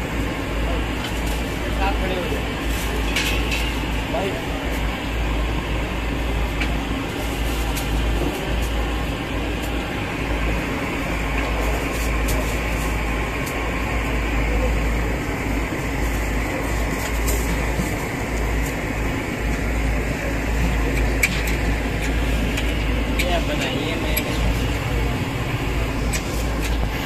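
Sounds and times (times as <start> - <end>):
machine hum and rumble: 0.0 - 27.0.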